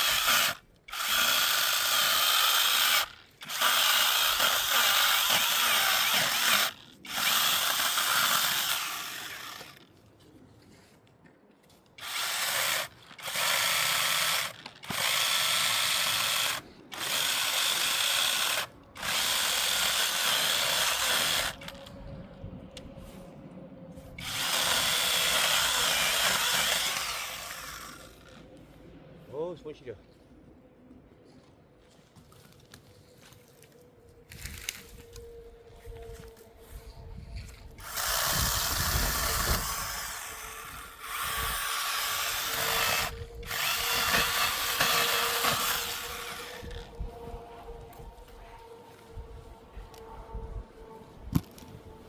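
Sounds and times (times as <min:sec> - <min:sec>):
small power tool whirring: 0:00.0 - 0:09.9, 0:12.0 - 0:22.0, 0:24.1 - 0:28.4, 0:34.3 - 0:52.0.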